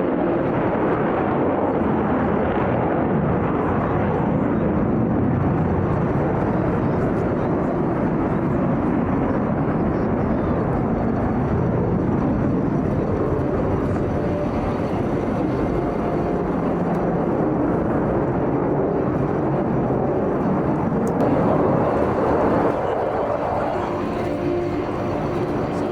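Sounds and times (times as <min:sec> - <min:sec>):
aircraft engine roar: 0:00.0 - 0:25.9.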